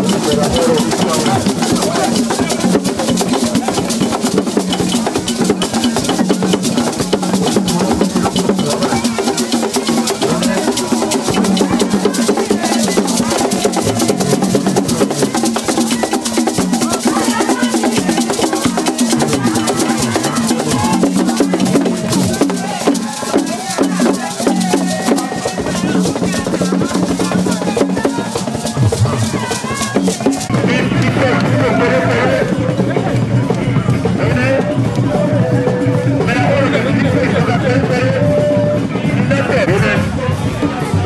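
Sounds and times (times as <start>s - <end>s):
hand drums in driving rhythm: 0.0s - 41.0s.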